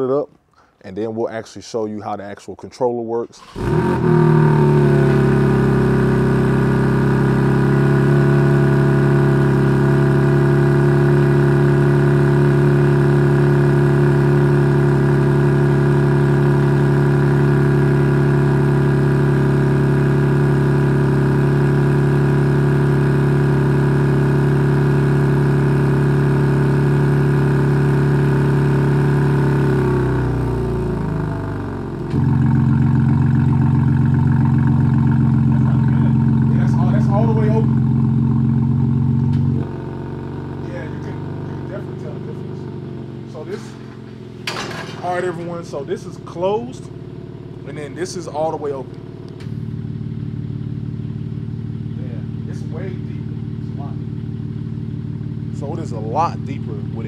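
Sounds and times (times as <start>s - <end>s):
car engine idling: 3.4s - 57.0s
loud exhaust note: 3.4s - 57.0s.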